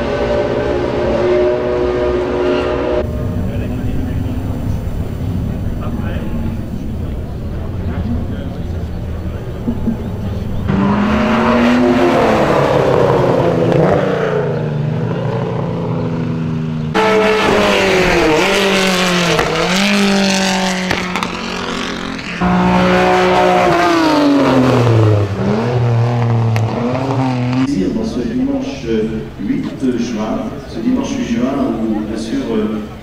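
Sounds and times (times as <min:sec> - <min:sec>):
racing car engines passing: 0:00.0 - 0:33.0.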